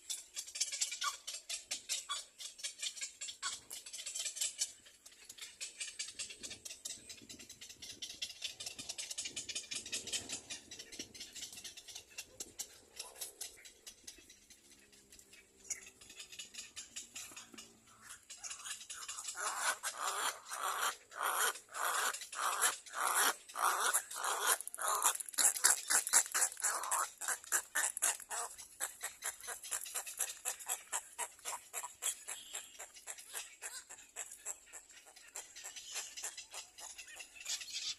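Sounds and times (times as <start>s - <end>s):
nestling birds begging calls: 0.0s - 37.9s.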